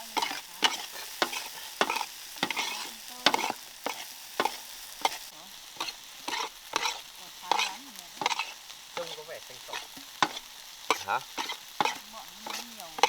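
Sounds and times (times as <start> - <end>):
food sizzling in hot oil: 0.0 - 13.0
spatula scraping a frying pan: 0.0 - 13.0.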